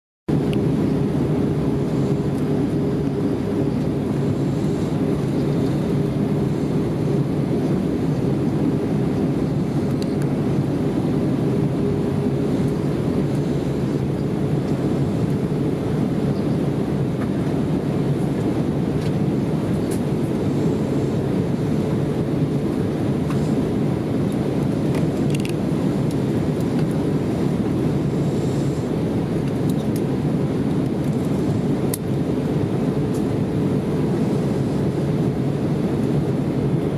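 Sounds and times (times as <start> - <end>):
airplane cabin engine rumble: 0.3 - 36.9
faint constant hum: 0.3 - 36.9.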